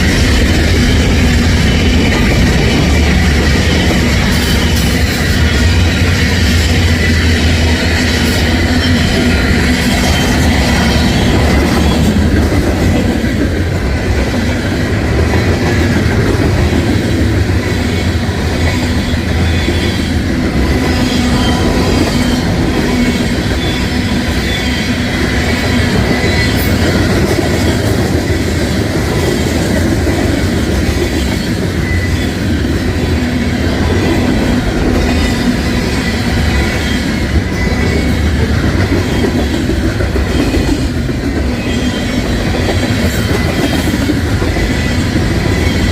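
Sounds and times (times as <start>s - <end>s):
freight cars rumbling: 0.0s - 45.9s.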